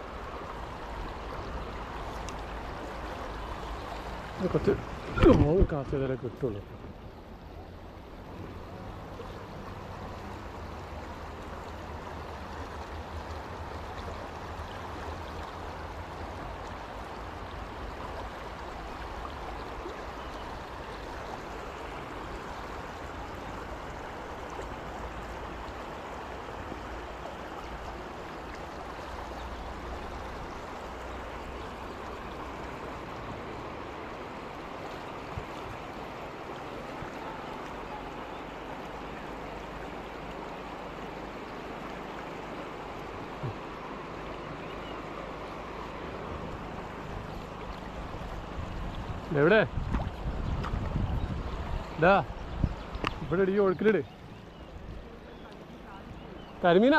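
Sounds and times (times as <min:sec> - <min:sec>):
river flowing over rocks: 0:00.0 - 0:56.9.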